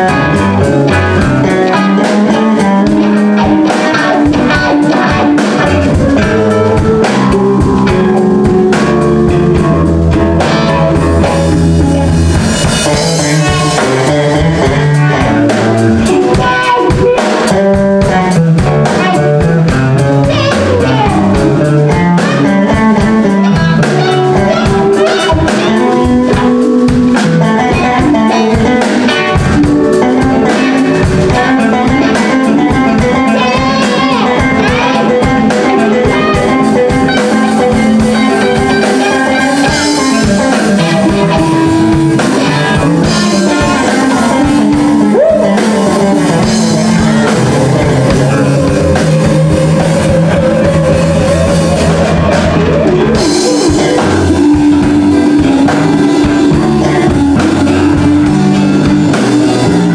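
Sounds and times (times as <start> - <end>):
blues band playing: 0.0 - 59.9
drum kit steady beat: 0.0 - 59.9
electric bass line: 0.0 - 59.9.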